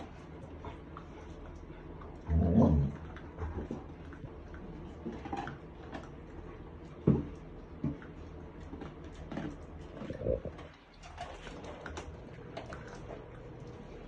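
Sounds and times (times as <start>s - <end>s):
dogs crunching kibble: 0.0s - 14.0s.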